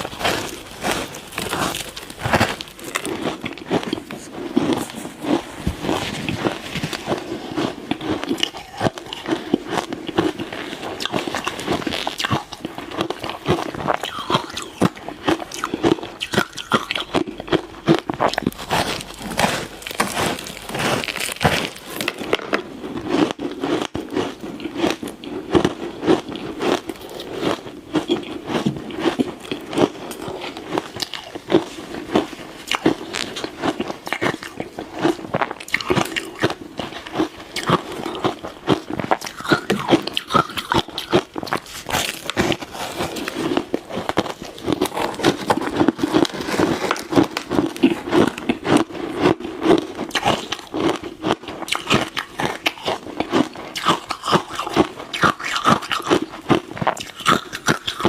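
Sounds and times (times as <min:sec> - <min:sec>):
chewing: 0:00.0 - 0:58.0
ice crunching between teeth: 0:00.0 - 0:58.0.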